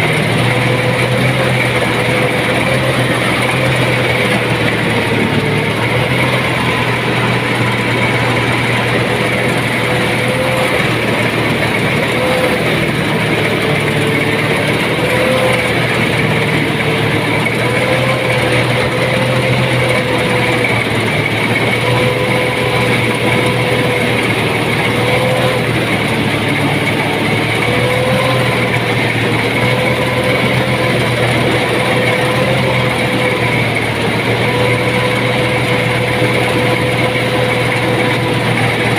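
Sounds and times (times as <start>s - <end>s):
rice thresher engine droning: 0.0s - 38.9s.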